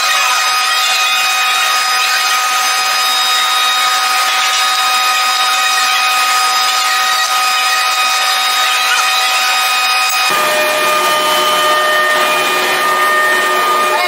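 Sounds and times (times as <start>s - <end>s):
metalworking machine whining: 0.0s - 14.0s.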